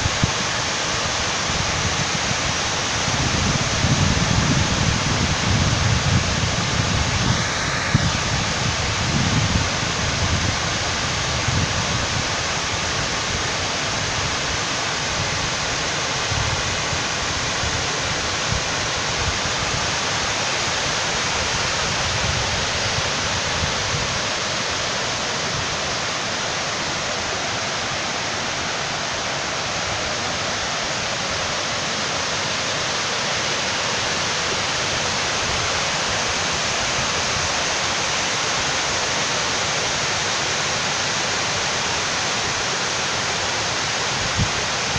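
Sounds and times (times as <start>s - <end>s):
water rushing over dam spillway: 0.0s - 44.9s.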